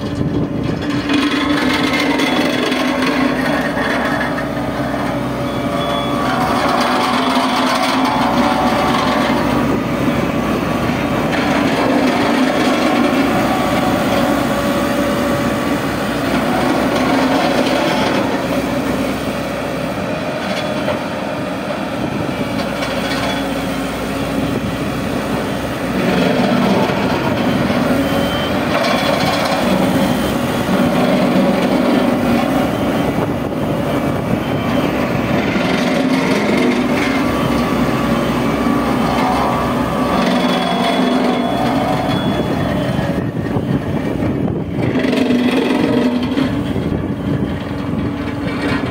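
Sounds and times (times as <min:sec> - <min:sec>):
roller compactor diesel engine: 0:00.0 - 0:48.9.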